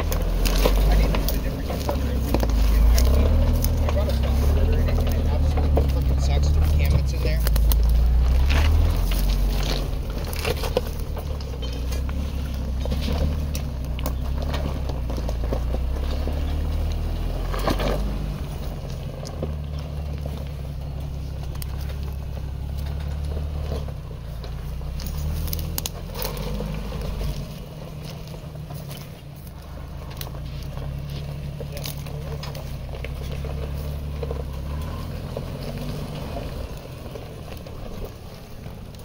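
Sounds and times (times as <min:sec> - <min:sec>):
off-road vehicle engine hum: 0:00.0 - 0:39.0
tyres crunching on gravel: 0:00.0 - 0:39.0.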